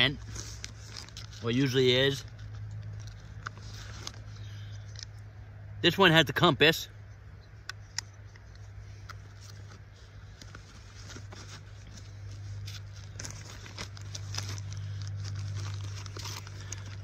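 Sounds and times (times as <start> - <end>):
clicks and rustling of fabric pouch: 0.0 - 5.3, 7.6 - 17.0
steady low hum: 0.0 - 17.0.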